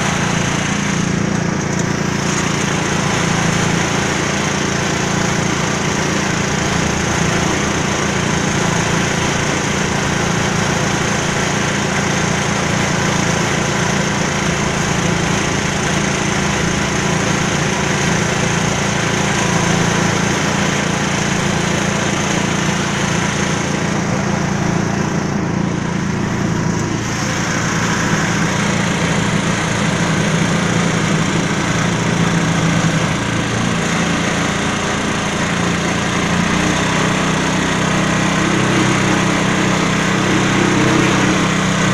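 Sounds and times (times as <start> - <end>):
small diesel engine running: 0.0 - 41.9.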